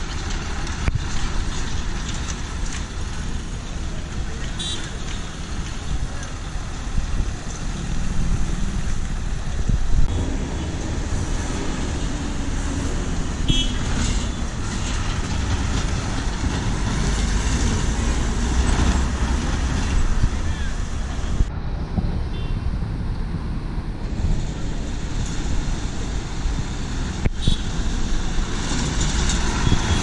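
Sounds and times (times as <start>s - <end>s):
heavy vehicle engines rumbling: 0.0s - 30.0s
traffic noise: 0.0s - 30.0s.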